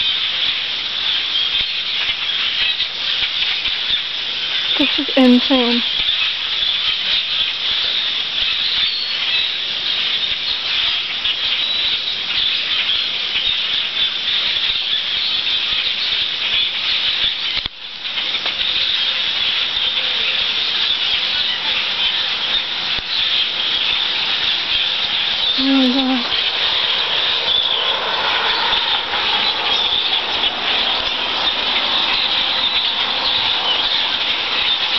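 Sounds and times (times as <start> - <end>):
flock of birds calling: 0.0 - 34.9.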